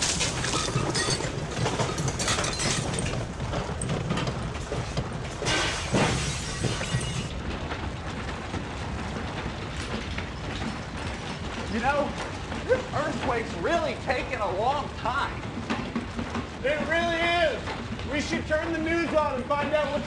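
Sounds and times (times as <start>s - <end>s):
low earthquake rumble: 0.0s - 18.6s
loose objects rattling: 0.0s - 20.0s
things crashing and breaking: 0.0s - 20.0s.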